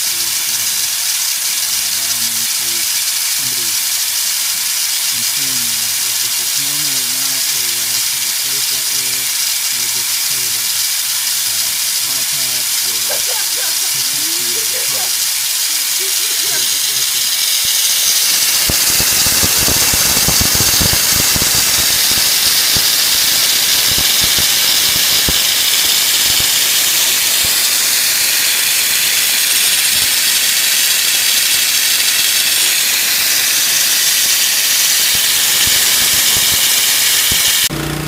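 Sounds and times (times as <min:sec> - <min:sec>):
water spraying hiss: 0:00.0 - 0:37.8.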